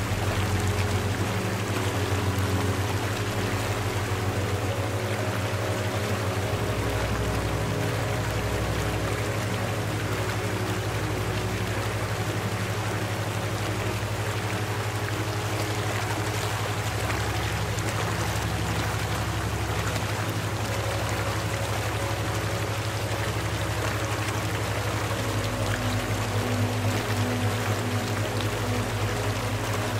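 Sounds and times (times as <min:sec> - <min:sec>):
flowing water: 0:00.0 - 0:29.9
low ambient drone: 0:00.0 - 0:29.9.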